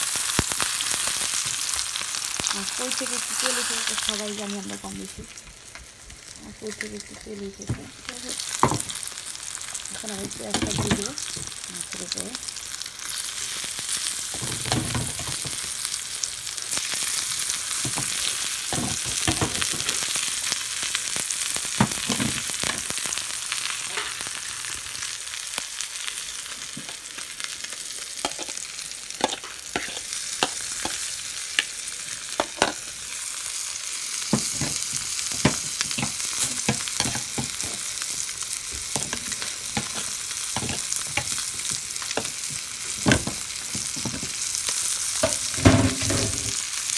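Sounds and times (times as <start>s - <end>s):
oil sizzling in a pan: 0.0s - 46.9s.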